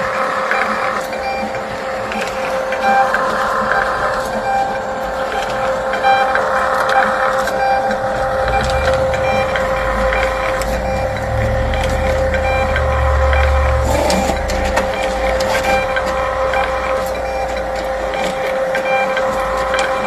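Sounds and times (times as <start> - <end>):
small machine whining: 0.0 - 20.0.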